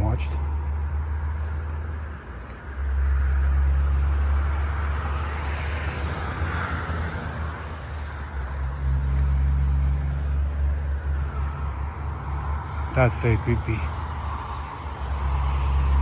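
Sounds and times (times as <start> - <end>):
distant road traffic: 0.0 - 16.0
vehicle passing hiss: 0.0 - 16.0.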